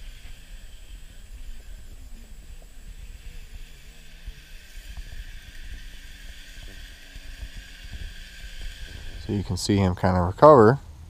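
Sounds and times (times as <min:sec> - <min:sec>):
faint wavering hum: 0:00.0 - 0:11.0.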